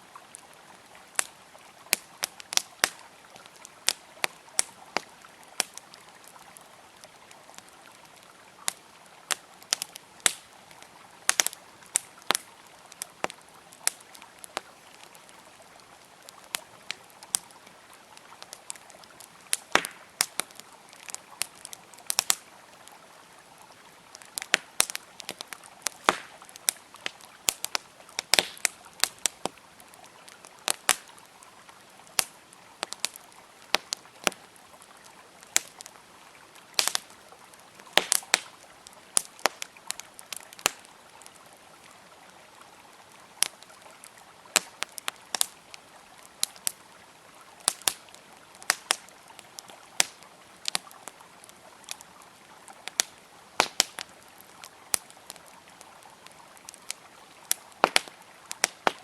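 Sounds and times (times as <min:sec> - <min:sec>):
campfire crackling and popping: 0:00.0 - 0:59.0
flowing river water: 0:00.0 - 0:59.0.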